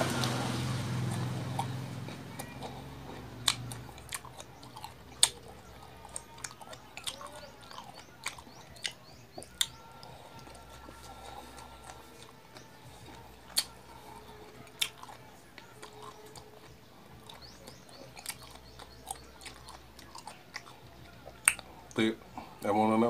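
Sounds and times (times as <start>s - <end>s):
wet chewing: 0.0s - 22.6s
lip smacks and clicks: 0.1s - 22.0s.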